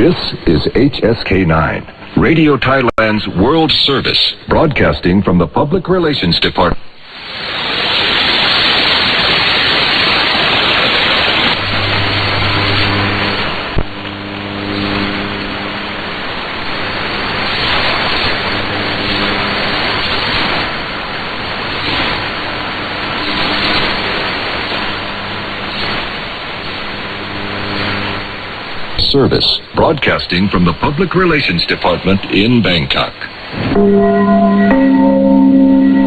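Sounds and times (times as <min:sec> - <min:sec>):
radio static and hiss: 0:00.0 - 0:36.0.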